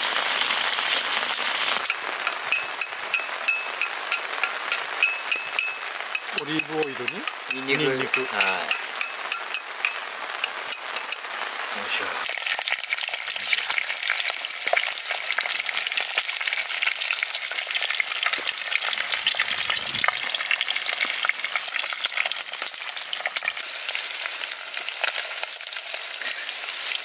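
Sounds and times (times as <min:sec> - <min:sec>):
garlic sizzling in oil: 0:00.0 - 0:27.0.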